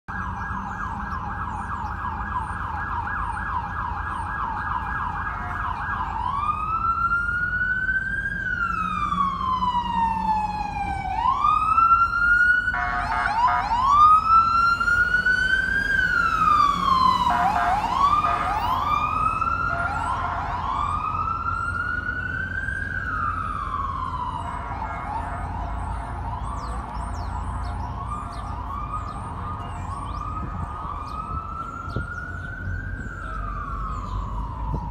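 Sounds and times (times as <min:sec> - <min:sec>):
city traffic rumble: 0:00.1 - 0:34.9
electronic siren yelp and wail: 0:00.1 - 0:34.9.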